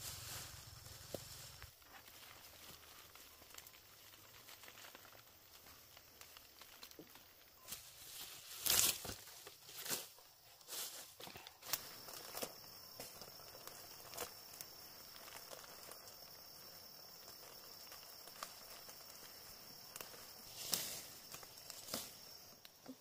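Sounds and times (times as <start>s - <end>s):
high-pitched insect call: 0.0s - 23.0s.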